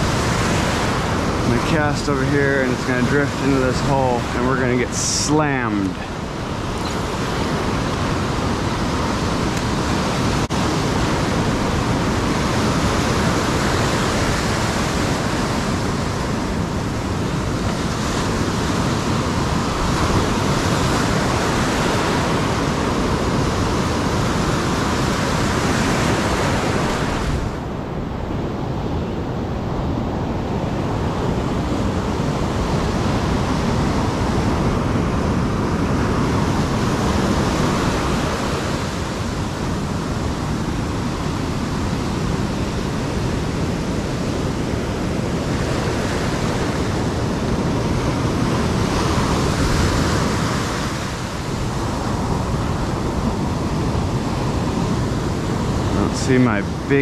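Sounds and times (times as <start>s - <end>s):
whitewater rushing: 0.0s - 28.0s, 29.3s - 57.0s
ocean surf breaking: 0.0s - 57.0s.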